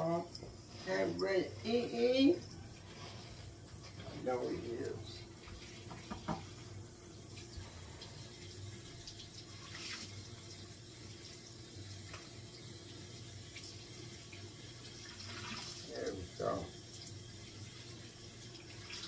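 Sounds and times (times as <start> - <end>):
faucet running water into sink: 0.0 - 19.0.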